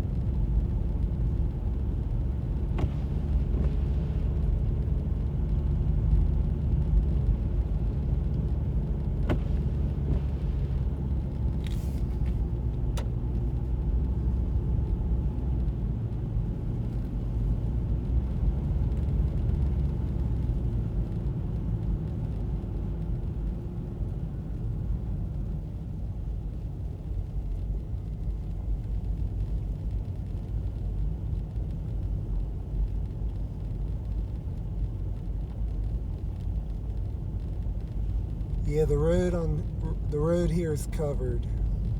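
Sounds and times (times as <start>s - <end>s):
car engine and tyres rumbling: 0.0s - 41.9s.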